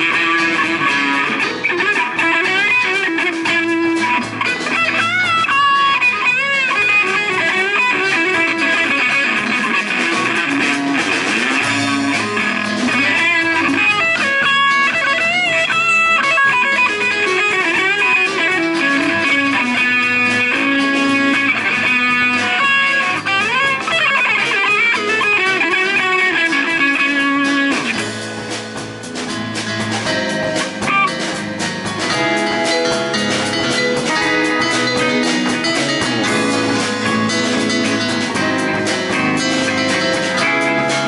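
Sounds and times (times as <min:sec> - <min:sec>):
electric guitar: 0:00.0 - 0:41.0
live rock band playing: 0:00.0 - 0:41.0.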